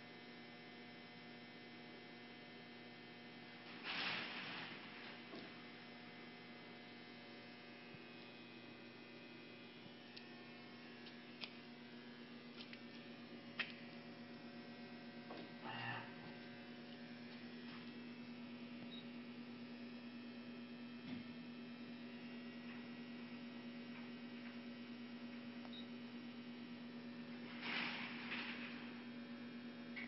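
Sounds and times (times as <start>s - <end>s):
lathe electrical hum: 0.0s - 30.0s.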